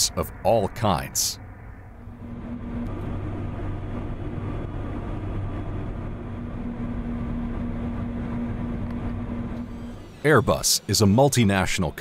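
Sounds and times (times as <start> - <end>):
low hum: 0.0 - 12.0
turboprop engines droning: 0.0 - 12.0.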